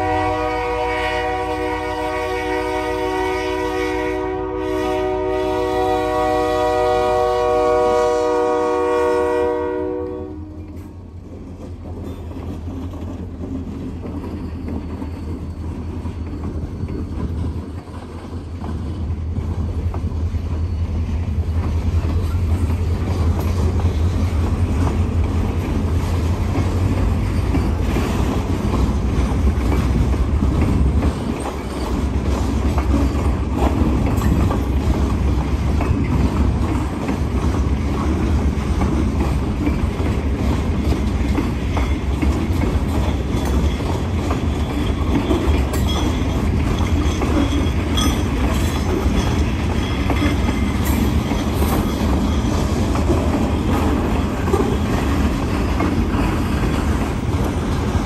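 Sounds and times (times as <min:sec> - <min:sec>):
diesel locomotive rumble: 0:00.0 - 0:58.0
wheels clicking over rail joints: 0:10.4 - 0:58.0.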